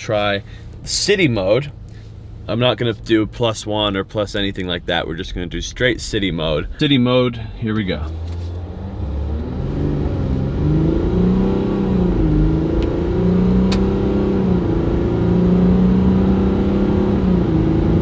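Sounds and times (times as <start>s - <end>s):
diesel engine accelerating: 0.0s - 18.0s.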